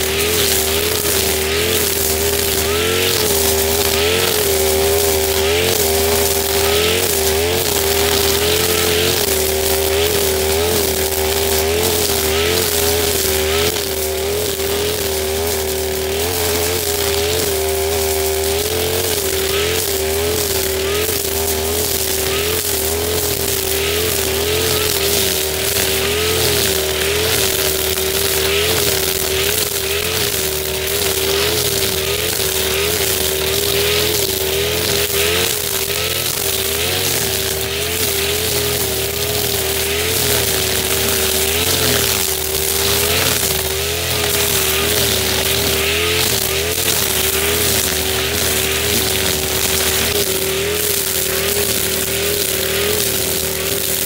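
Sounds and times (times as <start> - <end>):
brush cutter engine running: 0.0 - 54.0
grass being slashed: 0.0 - 54.0.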